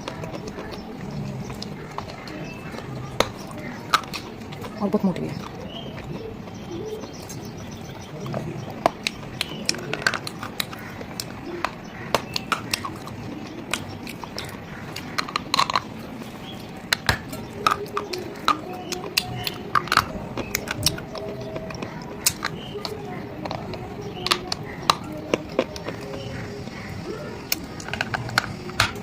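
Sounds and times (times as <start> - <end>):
chewing hard food crunches: 0.0 - 29.0.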